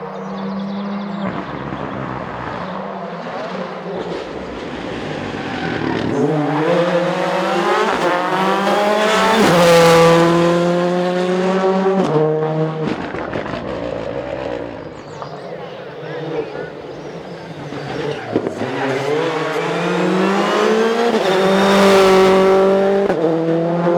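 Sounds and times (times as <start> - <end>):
rally car passing at full throttle: 0.0 - 23.9.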